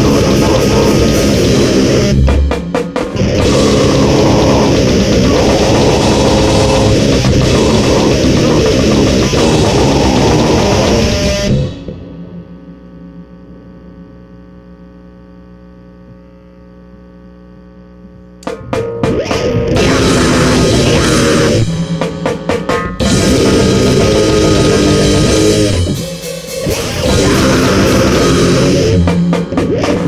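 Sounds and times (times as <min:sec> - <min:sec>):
drums and distorted guitar: 0:00.0 - 0:14.0, 0:18.4 - 0:30.0
droning chord with hum: 0:00.0 - 0:30.0.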